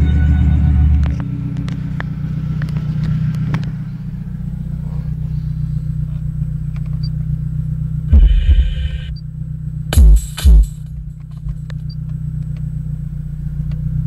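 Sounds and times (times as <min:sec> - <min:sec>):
heavy bass from car stereo: 0:00.0 - 0:12.0
car engine idling: 0:00.0 - 0:14.0.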